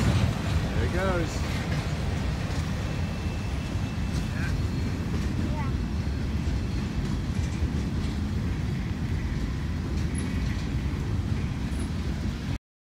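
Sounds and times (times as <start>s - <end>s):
freight train rumbling on rails: 0.0s - 12.6s.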